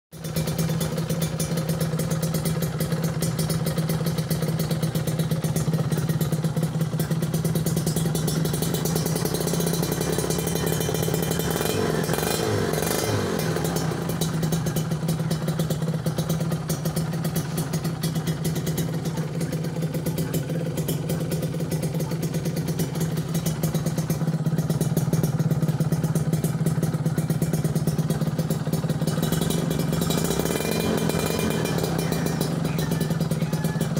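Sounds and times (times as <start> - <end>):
two-stroke motorcycle engine idling: 0.1 - 33.9.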